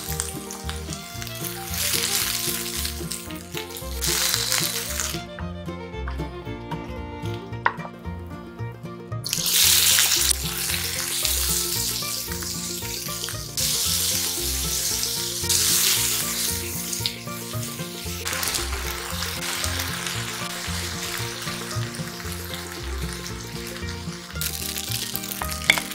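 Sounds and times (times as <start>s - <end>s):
food sizzling in a frying pan: 0.0s - 5.1s, 9.2s - 25.9s.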